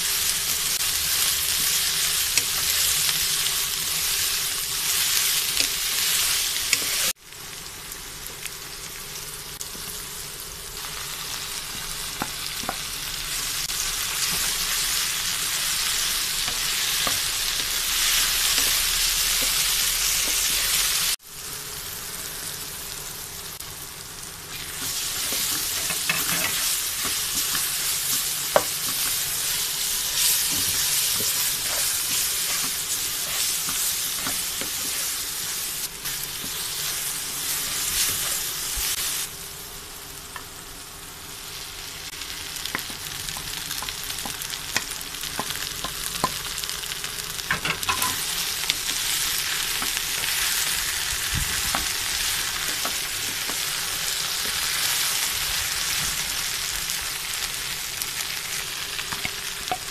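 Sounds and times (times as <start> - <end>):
food sizzling in a wok: 0.0 - 59.9.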